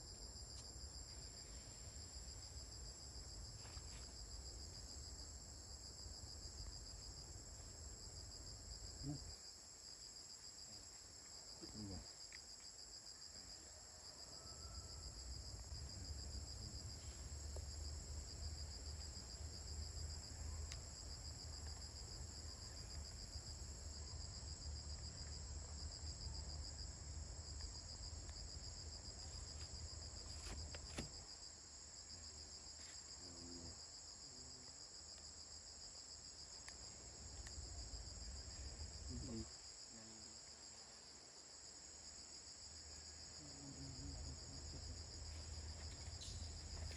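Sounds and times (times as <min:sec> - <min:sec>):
insects chirring: 0:00.0 - 0:26.8, 0:27.4 - 0:46.9.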